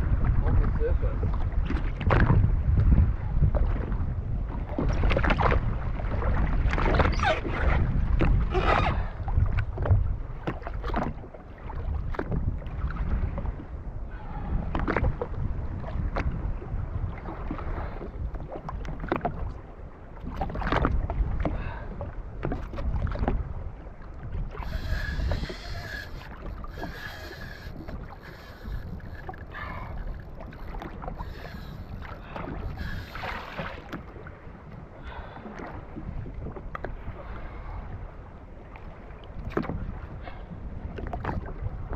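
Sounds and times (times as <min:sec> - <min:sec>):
water splashing against hull: 0:00.0 - 0:41.9
wind buffeting microphone: 0:00.0 - 0:41.9.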